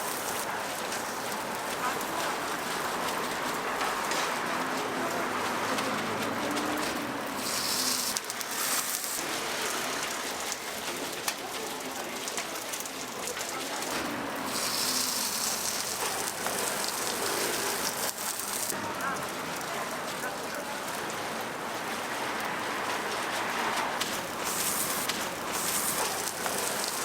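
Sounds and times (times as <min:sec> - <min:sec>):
oil sizzling on a griddle: 0:00.0 - 0:27.0.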